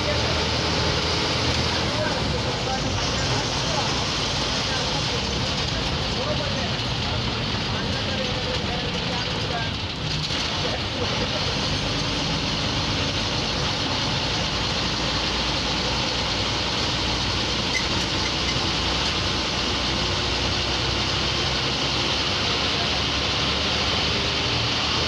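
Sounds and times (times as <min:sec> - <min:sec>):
bus engine running: 0:00.0 - 0:25.0
road noise: 0:00.0 - 0:25.0.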